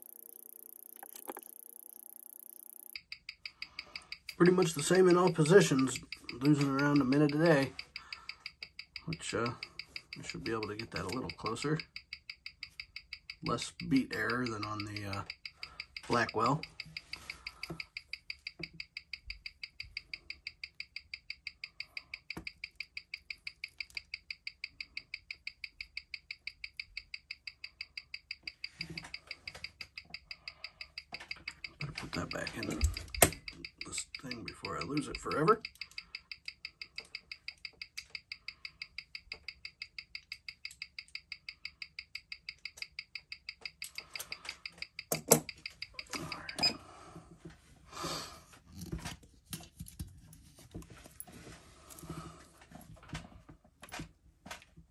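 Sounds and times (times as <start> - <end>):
mechanical watch ticking: 0.0 - 46.8.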